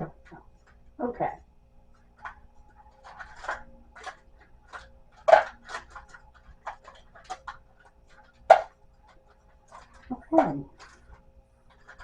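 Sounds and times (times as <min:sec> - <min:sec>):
faint steady hum: 0:00.0 - 0:12.0
pens clicking and clattering: 0:02.2 - 0:12.0.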